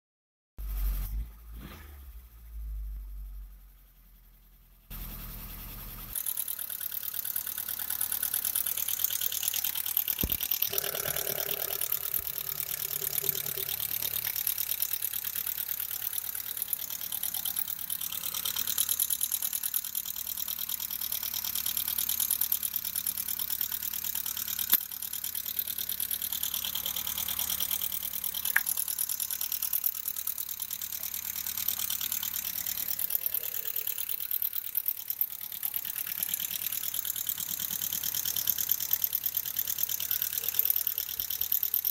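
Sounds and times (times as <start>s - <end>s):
car engine idling: 2.2s - 41.9s
fast even engine ticking: 4.9s - 41.9s.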